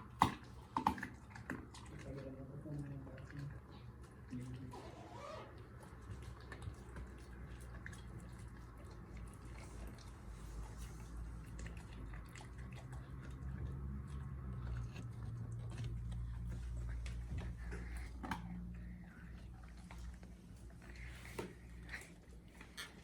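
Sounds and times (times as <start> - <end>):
dog gnawing a bone: 0.0 - 23.0.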